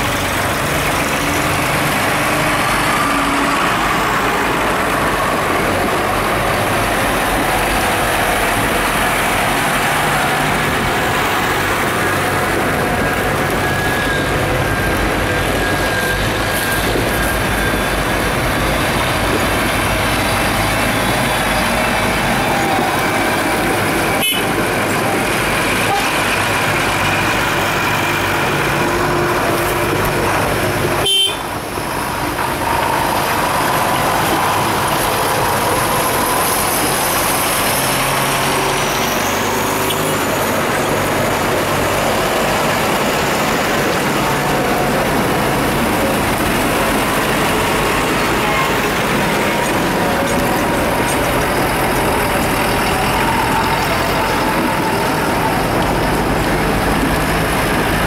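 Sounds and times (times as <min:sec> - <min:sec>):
tractor diesel engines running: 0:00.0 - 0:58.0.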